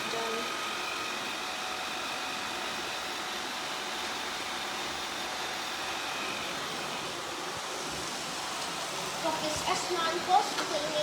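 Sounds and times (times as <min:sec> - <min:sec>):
robot vacuum cleaners whirring: 0:00.0 - 0:11.0.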